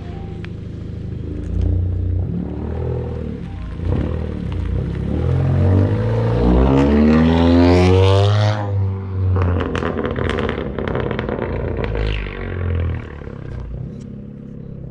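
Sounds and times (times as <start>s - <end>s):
car engine revving: 0.0s - 14.9s
exhaust crackles and pops: 0.4s - 7.6s, 9.0s - 14.9s.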